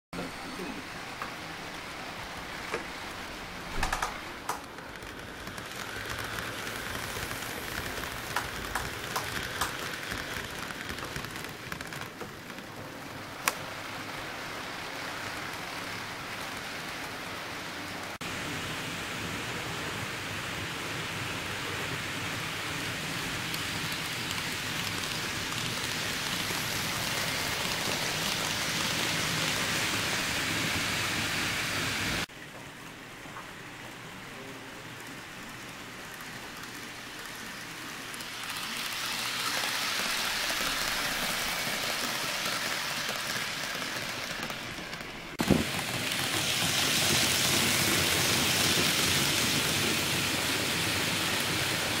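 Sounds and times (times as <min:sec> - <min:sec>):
model train wheels and motor rushing: 0:00.2 - 0:52.0.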